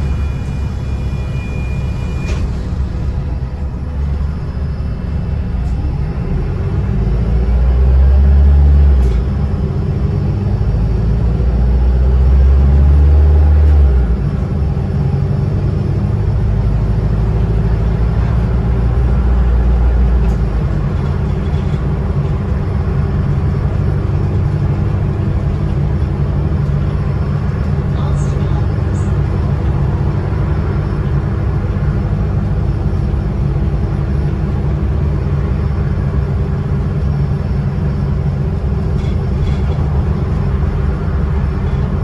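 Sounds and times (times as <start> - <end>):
bus engine drone: 0.0 - 42.0
road noise: 0.0 - 42.0.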